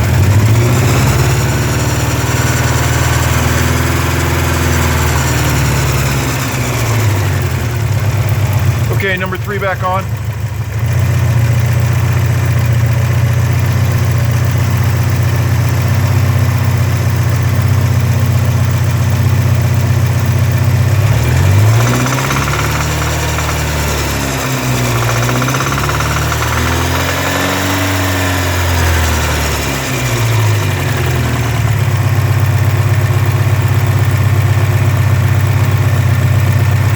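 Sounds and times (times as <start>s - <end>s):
car engine idling and revving: 0.0s - 36.9s
engine knock: 0.0s - 36.9s.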